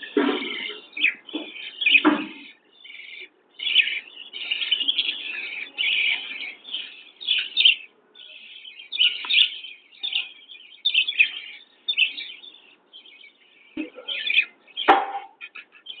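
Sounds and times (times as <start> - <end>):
budgerigars chirping and chattering: 0.0 - 16.0.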